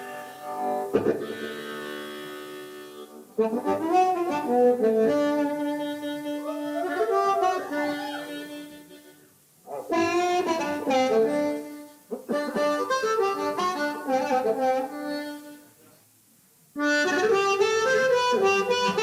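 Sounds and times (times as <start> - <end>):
live blues band music: 0.0 - 15.5, 16.8 - 19.0
reed instrument bending melody: 0.0 - 15.7, 16.8 - 19.0.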